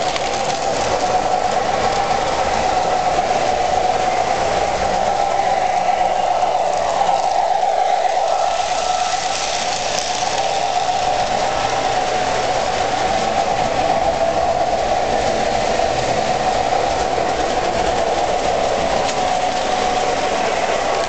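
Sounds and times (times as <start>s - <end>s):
model train motor whine: 0.0s - 21.0s
wheels rumbling on rails: 0.0s - 21.0s.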